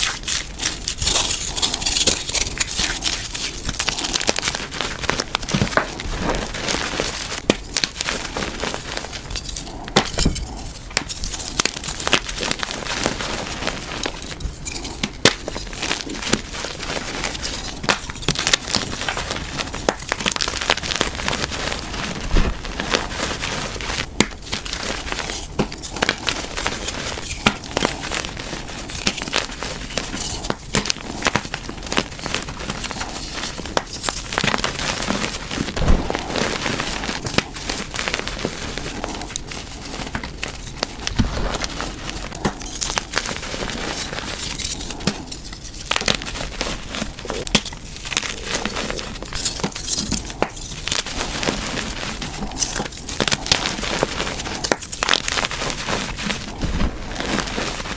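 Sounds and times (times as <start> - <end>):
chalk crunching: 0.0 - 57.9.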